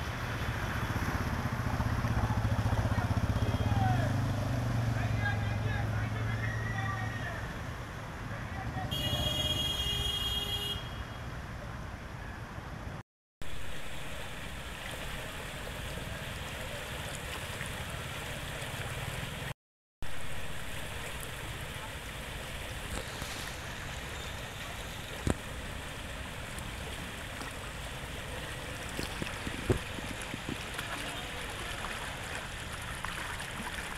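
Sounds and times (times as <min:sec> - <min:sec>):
floodwater rushing and gurgling: 0:00.0 - 0:09.9, 0:11.3 - 0:33.9.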